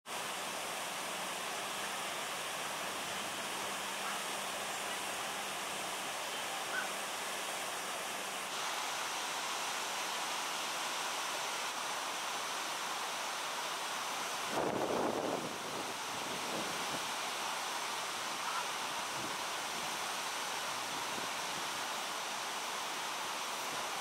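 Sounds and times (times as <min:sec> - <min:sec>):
flowing water rushing: 0:00.1 - 0:24.0.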